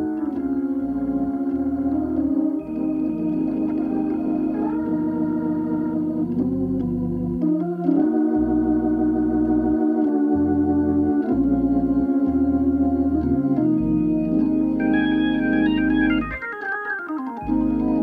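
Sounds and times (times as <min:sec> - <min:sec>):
electronic organ chords: 0:00.0 - 0:18.0
organ bass line: 0:00.0 - 0:18.0.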